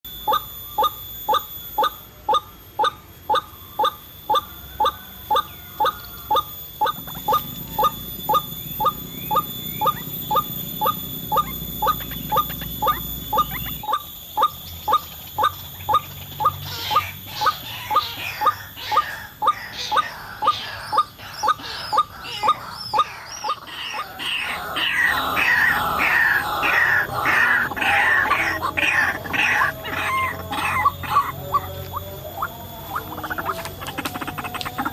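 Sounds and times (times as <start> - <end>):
higher bird chattering: 0.2 - 34.9
waterhen harsh call notes: 0.2 - 34.9.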